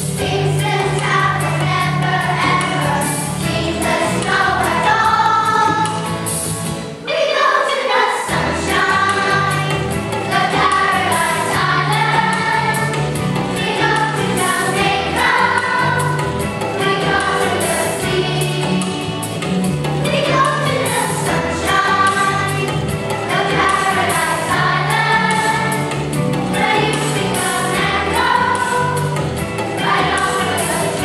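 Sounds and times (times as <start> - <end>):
group of voices singing: 0.2 - 6.0, 7.0 - 19.4, 20.0 - 31.0.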